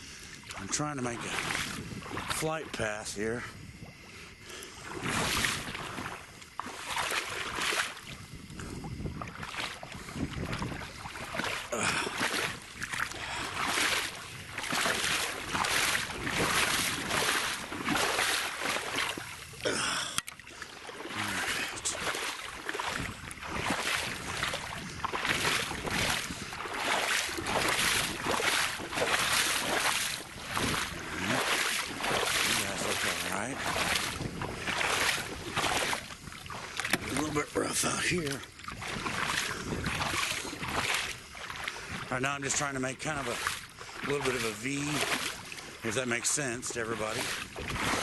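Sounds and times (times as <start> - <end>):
wading through muddy water: 0.0 - 48.0.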